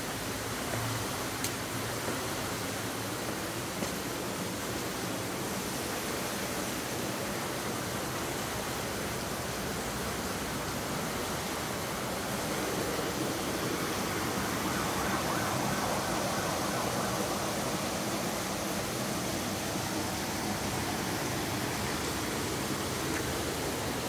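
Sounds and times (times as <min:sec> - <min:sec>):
waterfall cascading into pool: 0:00.0 - 0:24.0.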